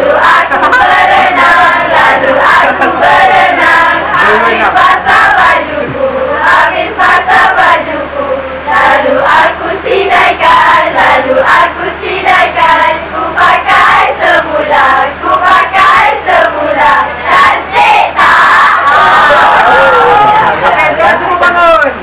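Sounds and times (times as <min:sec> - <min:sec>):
group of girls singing and chanting: 0:00.0 - 0:19.6.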